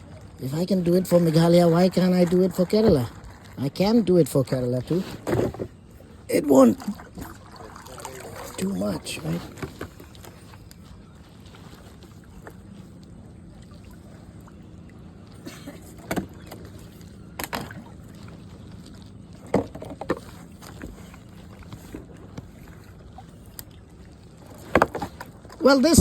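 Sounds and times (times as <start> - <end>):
low water wash: 0.0 - 26.0.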